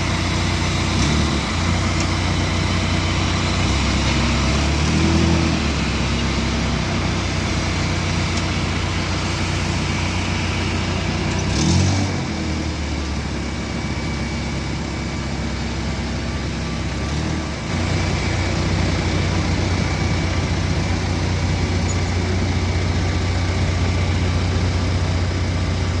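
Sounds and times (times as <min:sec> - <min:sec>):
engine noise: 0:00.0 - 0:26.0.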